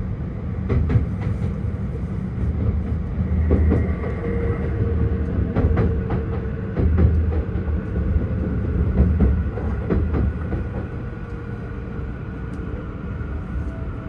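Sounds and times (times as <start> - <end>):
train cabin rumble: 0.0 - 14.0.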